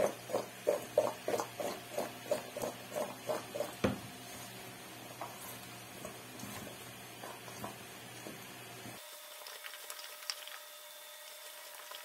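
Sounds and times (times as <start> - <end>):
vegetables mixed by hand: 0.0 - 12.0.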